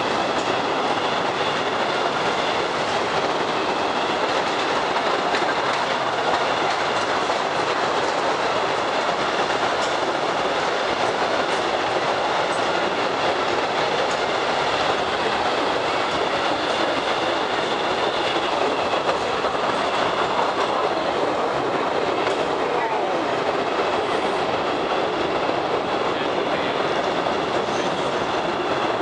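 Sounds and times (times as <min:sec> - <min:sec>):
train cars rumbling and rattling: 0:00.0 - 0:29.0.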